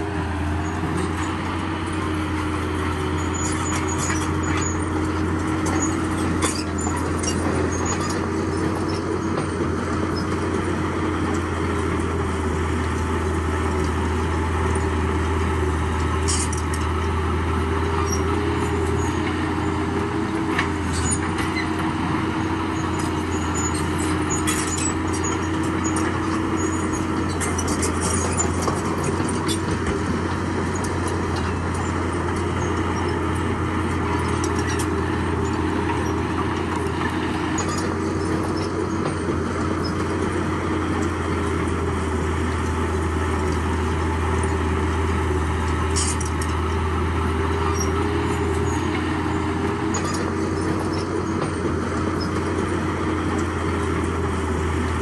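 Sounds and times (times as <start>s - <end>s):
diesel machinery droning: 0.0s - 55.0s.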